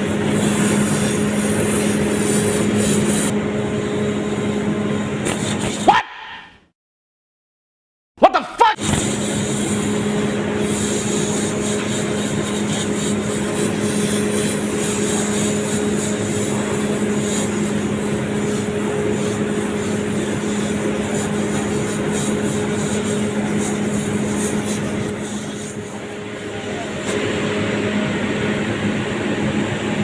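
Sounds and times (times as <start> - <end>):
air compressor running: 0.0 - 5.9, 8.8 - 30.0.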